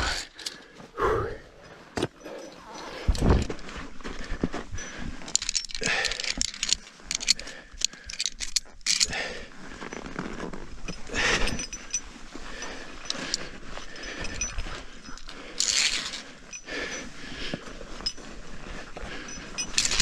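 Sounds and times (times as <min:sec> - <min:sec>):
carabiners clinking on steel cable: 0:00.0 - 0:00.7, 0:01.6 - 0:20.0.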